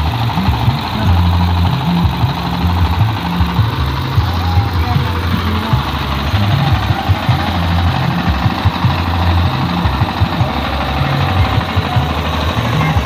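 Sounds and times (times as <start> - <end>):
loud music with deep bassline: 0.0 - 13.0.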